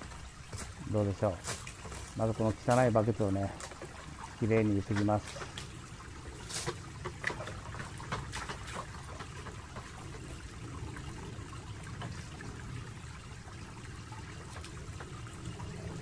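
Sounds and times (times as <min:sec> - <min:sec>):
trickle of running water: 0:00.0 - 0:16.0
water splashing in bucket: 0:00.0 - 0:16.0.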